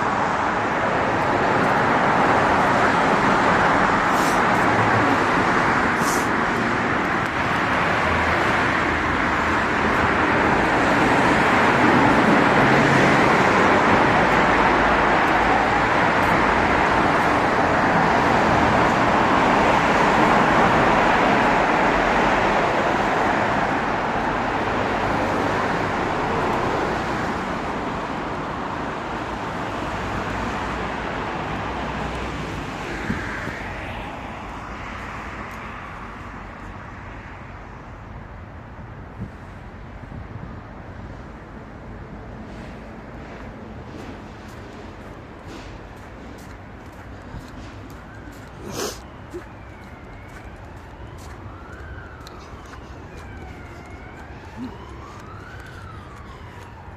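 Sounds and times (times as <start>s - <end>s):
road traffic: 0.0s - 56.9s.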